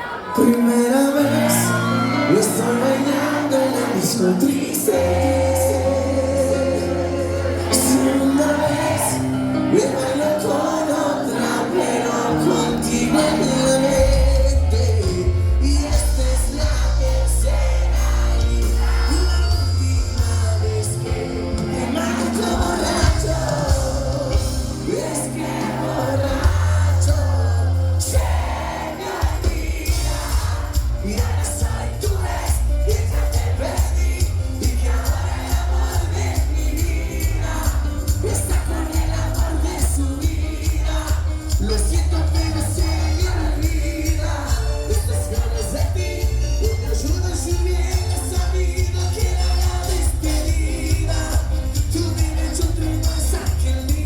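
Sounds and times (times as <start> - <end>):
lead singer singing: 0.0 - 54.0
live band music: 0.1 - 54.0.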